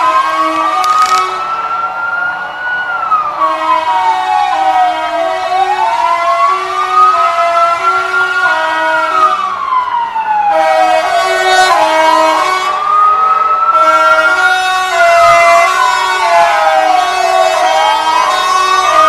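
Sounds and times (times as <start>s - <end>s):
two-tone siren: 0.0s - 19.0s
wailing siren: 0.0s - 19.0s.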